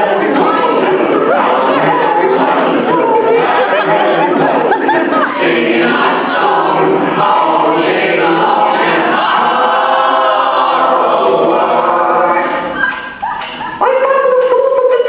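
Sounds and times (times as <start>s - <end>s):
choir singing and chanting: 0.0s - 15.0s.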